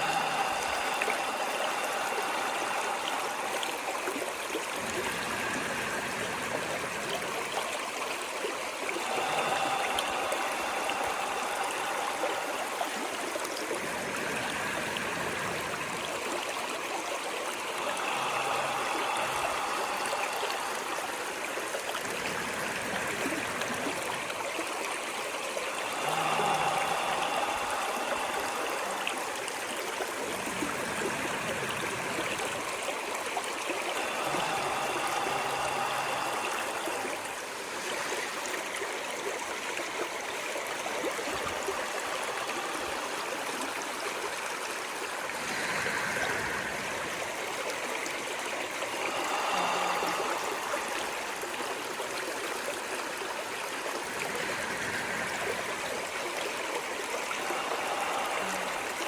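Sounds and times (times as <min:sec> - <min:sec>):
stream water running and gurgling: 0:00.0 - 0:59.0.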